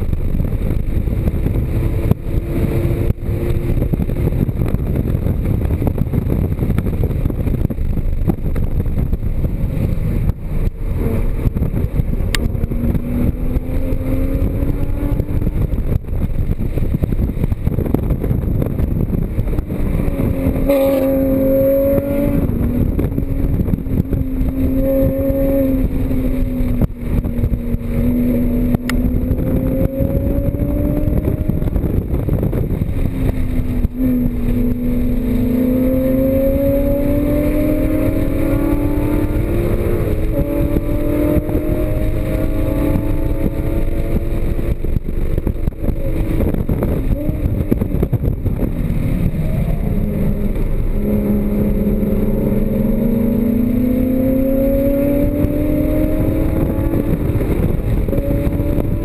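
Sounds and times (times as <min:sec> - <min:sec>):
low rumble of road and wind: 0:00.0 - 0:59.0
sports car engine revving: 0:00.0 - 0:59.0.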